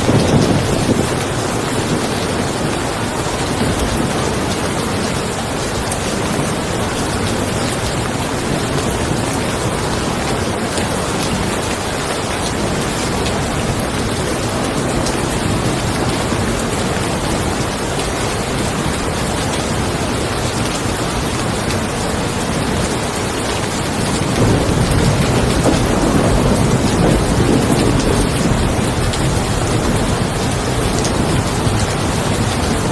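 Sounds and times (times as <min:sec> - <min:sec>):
low thunder rumble: 0:00.0 - 0:23.0, 0:23.6 - 0:32.9
rain falling: 0:00.0 - 0:32.9.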